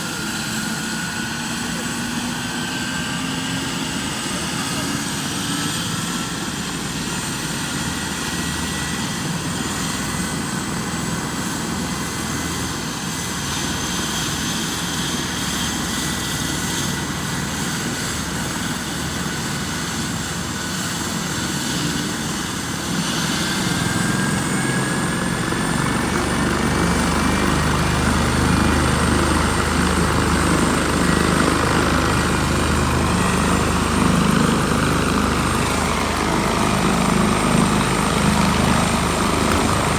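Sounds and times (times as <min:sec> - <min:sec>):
helicopter engine and rotor noise: 0:00.0 - 0:39.9
helicopter turbine whine: 0:00.0 - 0:39.9.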